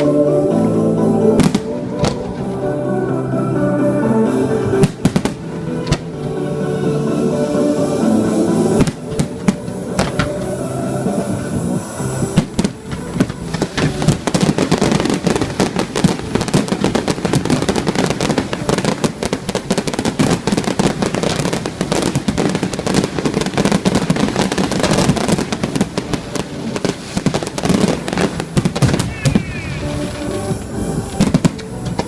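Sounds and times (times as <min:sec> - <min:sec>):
fireworks bangs and crackles: 0:01.2 - 0:03.1, 0:04.4 - 0:32.0.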